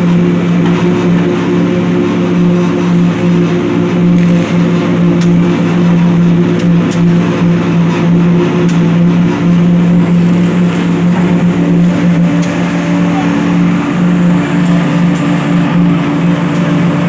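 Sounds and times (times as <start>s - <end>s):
heavy machinery engine drone: 0.0s - 17.0s.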